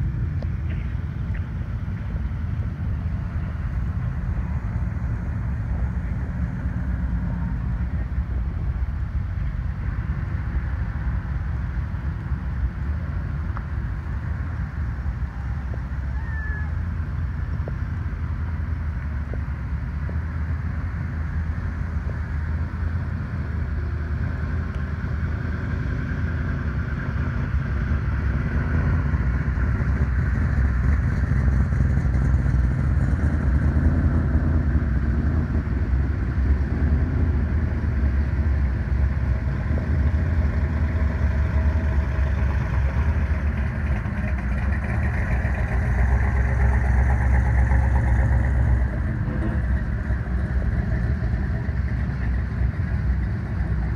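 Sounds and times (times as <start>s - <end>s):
cars rolling past: 0.0s - 53.9s.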